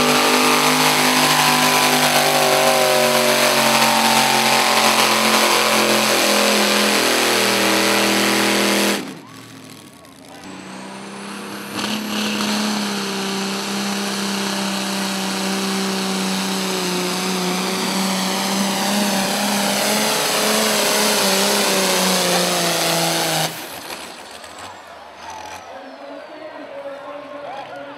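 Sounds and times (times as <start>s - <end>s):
tractor engine revving high: 0.0s - 25.7s.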